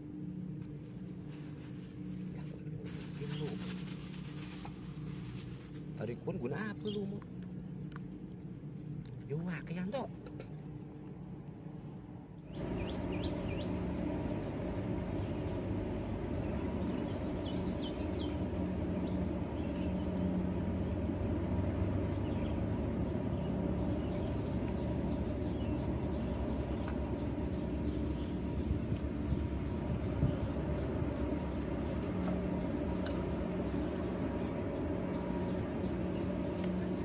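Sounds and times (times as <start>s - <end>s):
low background rumble: 0.0s - 37.0s.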